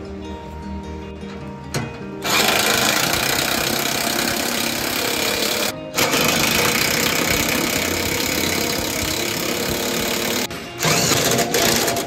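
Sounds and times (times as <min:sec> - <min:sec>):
impact wrench hammering: 0:02.2 - 0:12.0.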